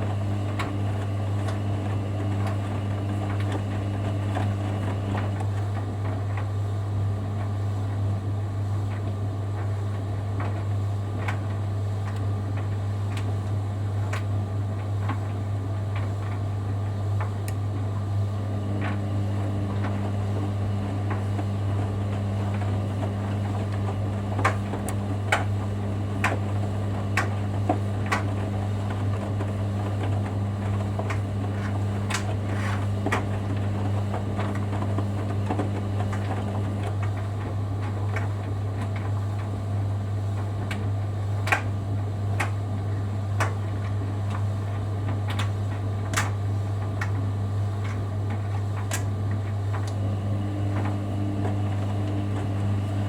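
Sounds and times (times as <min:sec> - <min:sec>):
washing machine motor humming: 0:00.0 - 0:53.0.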